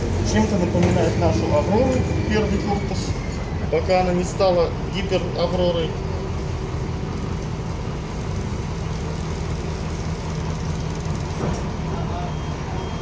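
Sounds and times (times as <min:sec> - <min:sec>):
bus engine low drone: 0:00.0 - 0:13.0.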